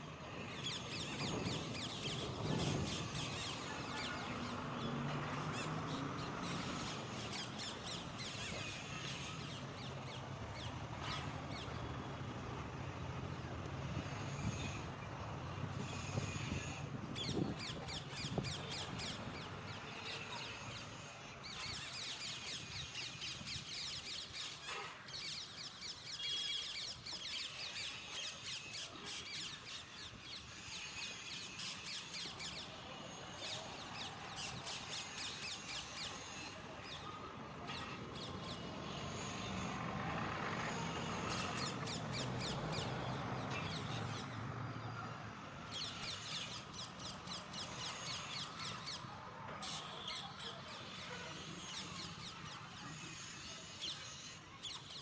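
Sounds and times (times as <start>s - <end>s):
birds chirping and chattering: 0.0s - 55.0s.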